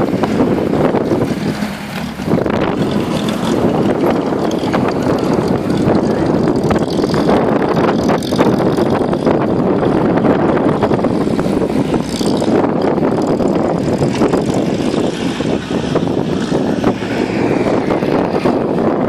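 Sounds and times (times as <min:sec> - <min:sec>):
off-road vehicle engine running hard: 0:00.0 - 0:19.0
knocks and rattles: 0:01.0 - 0:17.4.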